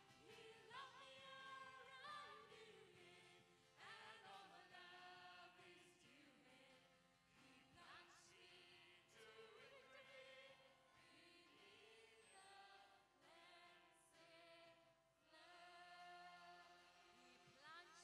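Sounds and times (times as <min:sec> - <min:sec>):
group singing worship song: 0:00.0 - 0:17.0.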